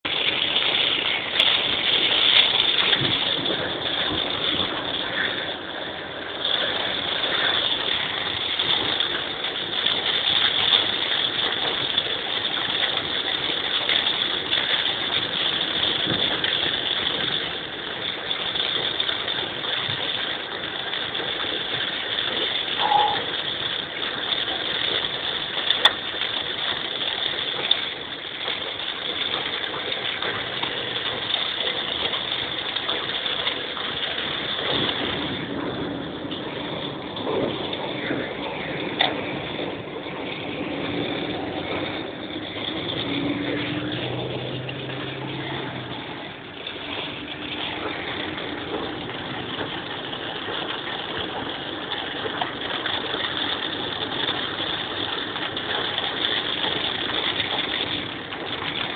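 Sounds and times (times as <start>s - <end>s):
rain and water washing over car: 0.0s - 58.9s.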